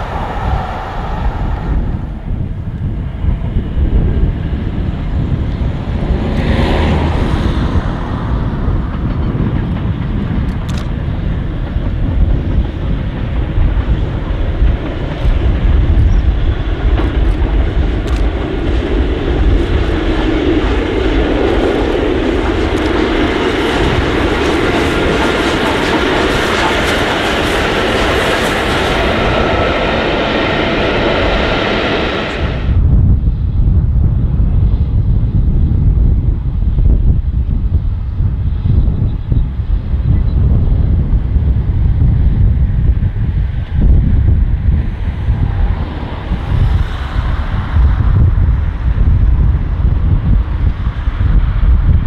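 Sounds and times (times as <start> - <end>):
steam train passing at speed: 0.0 - 35.2, 39.6 - 52.0.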